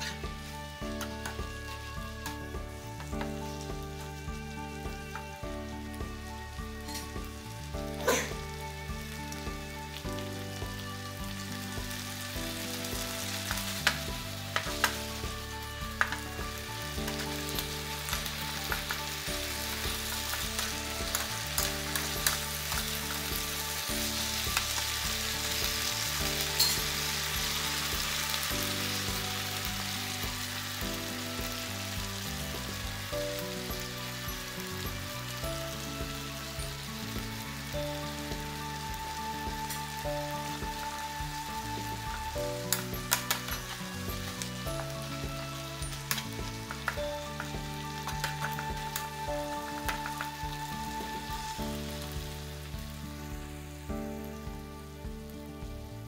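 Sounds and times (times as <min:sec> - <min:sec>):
beef and onion sizzling: 0:00.0 - 0:56.0.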